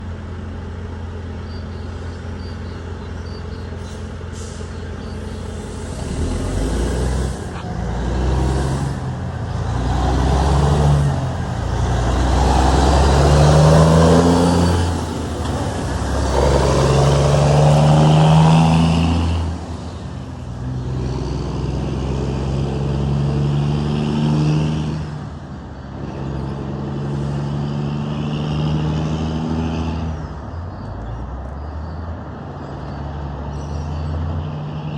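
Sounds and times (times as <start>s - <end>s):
diesel truck engine accelerating: 0.0s - 34.9s.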